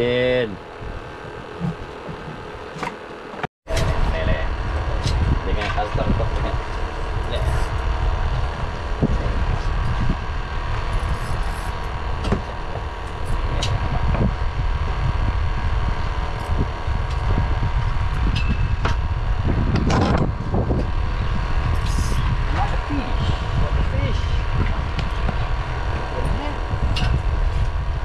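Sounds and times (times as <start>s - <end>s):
wind on microphone: 0.0s - 2.9s, 3.7s - 28.0s
rush of noise: 3.7s - 28.0s.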